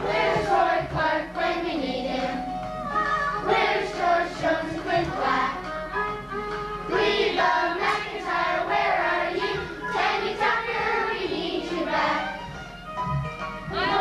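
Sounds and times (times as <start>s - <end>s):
musical accompaniment: 0.0s - 14.0s.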